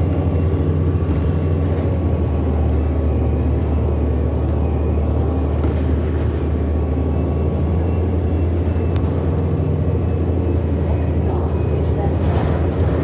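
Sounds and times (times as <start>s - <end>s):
bus drone and rumble: 0.0s - 13.0s.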